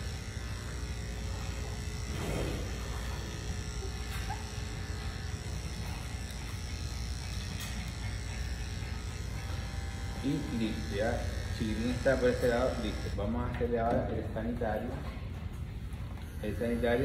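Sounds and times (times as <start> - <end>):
electric pet clipper running: 0.0 - 17.0.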